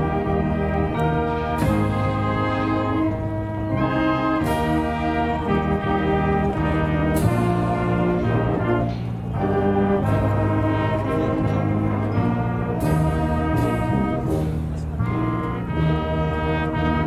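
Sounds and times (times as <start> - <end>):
wind band brass chords: 0.0 - 17.0.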